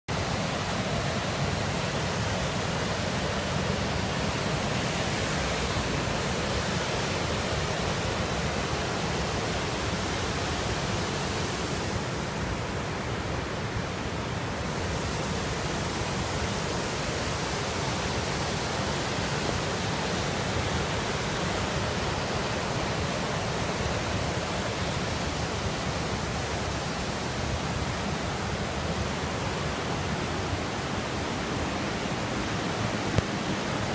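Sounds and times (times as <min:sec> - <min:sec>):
river rapids roaring: 0:00.1 - 0:33.9.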